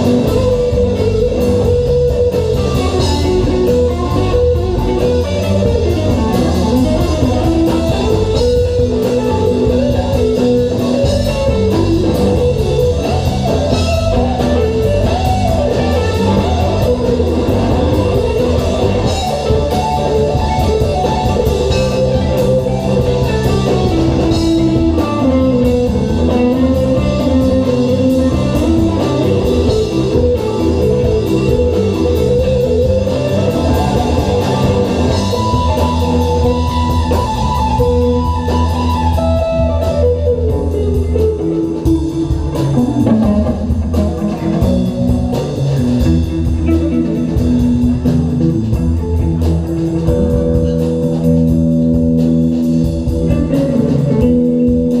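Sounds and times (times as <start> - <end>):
bass guitar: 0.0 - 55.0
drum kit: 0.0 - 55.0
electric guitar lead: 0.0 - 55.0.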